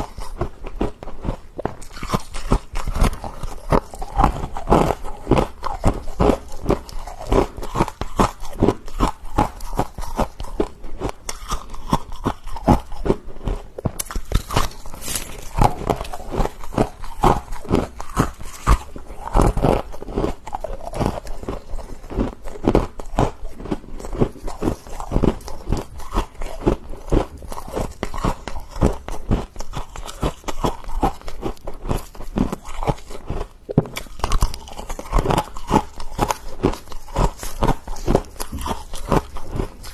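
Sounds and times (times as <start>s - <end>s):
frost being chewed crunching: 0.0s - 39.9s.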